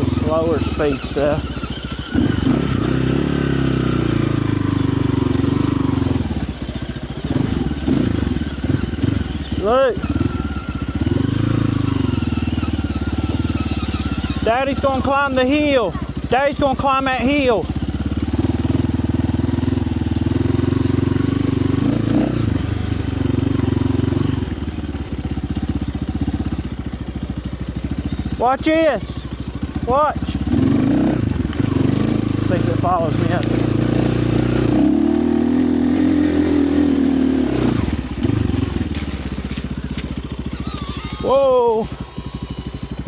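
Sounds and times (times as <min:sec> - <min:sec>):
dirt bike engine running: 0:00.0 - 0:43.0.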